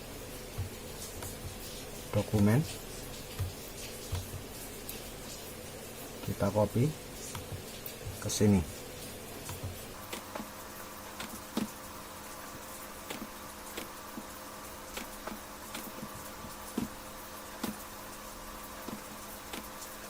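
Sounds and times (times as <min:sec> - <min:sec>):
steady electrical buzz: 0:00.0 - 0:20.0.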